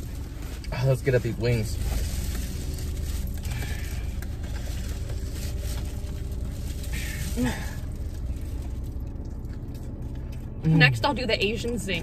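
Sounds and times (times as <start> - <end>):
car engine and air conditioning hum: 0.0 - 12.0.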